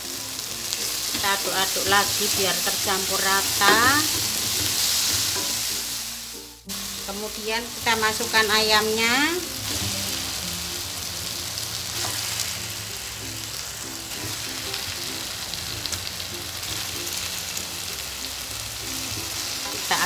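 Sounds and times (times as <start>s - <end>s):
spice paste sizzling in oil: 0.0s - 20.0s.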